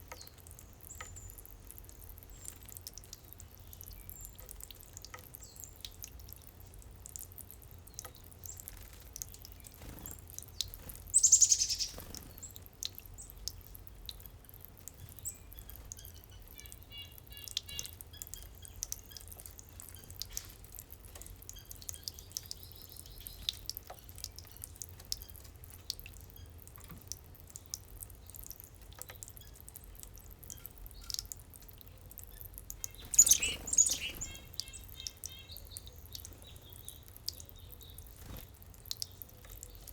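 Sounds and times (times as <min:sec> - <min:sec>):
fountain dripping and trickling: 0:00.0 - 0:39.9
songbird calls and chirps: 0:00.0 - 0:39.9.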